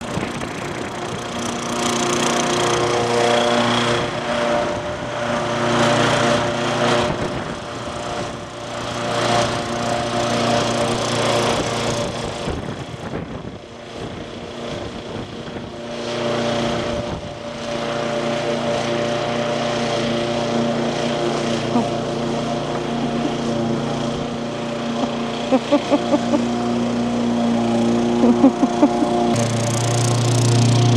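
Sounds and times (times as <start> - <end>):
lawnmower engine running: 0.0 - 30.9.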